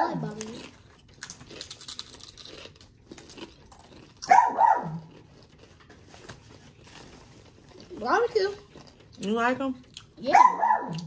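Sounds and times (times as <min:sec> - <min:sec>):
people chewing crunchy chips: 0:00.0 - 0:10.3.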